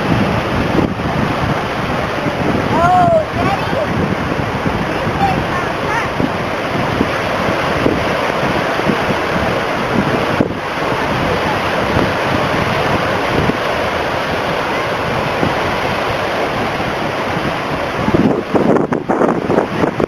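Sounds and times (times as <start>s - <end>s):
heavy surf crashing: 0.0s - 20.0s
wind buffeting microphone: 0.0s - 20.0s.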